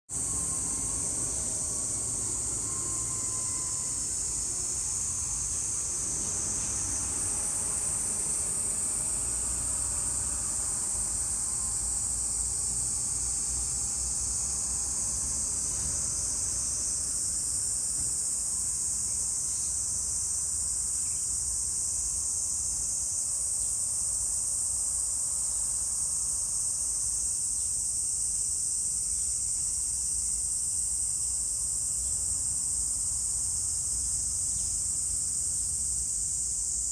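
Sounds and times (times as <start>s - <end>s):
cicadas droning: 0.1s - 36.9s.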